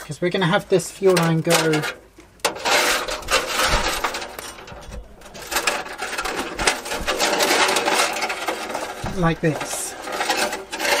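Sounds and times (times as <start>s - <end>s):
plastic tubing rustling and scraping: 1.1s - 11.0s.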